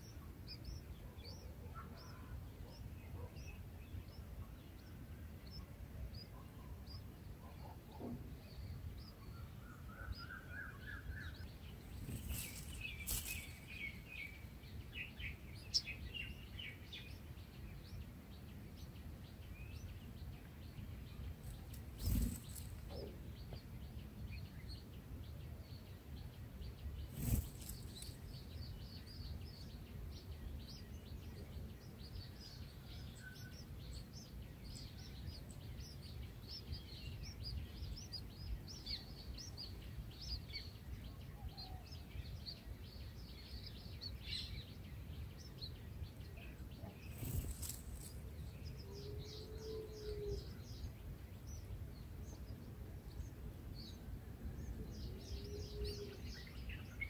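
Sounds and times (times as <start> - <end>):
low outdoor background hum: 0.0 - 57.0.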